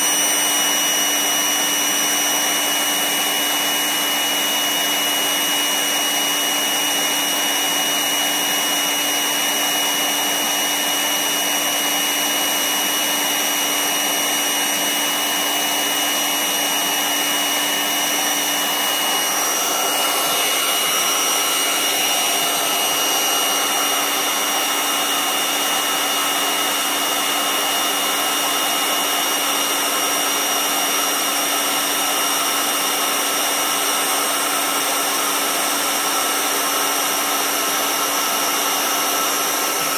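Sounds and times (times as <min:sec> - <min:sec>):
electric air pump motor whine: 0:00.0 - 0:39.9.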